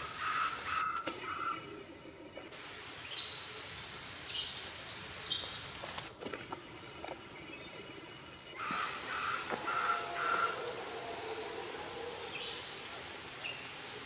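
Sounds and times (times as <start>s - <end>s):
forest background hiss: 0.0s - 14.0s.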